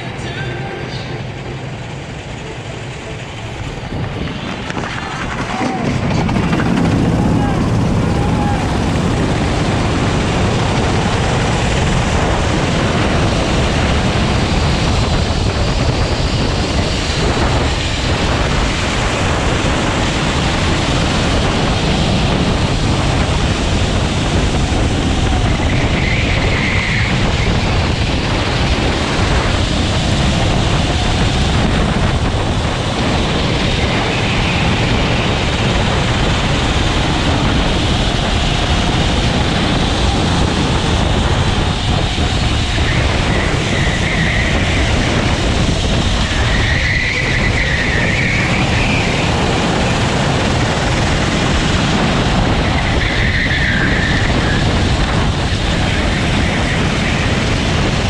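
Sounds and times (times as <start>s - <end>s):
kart engine running hard: 0.0s - 58.0s
wind rush on microphone: 0.0s - 58.0s.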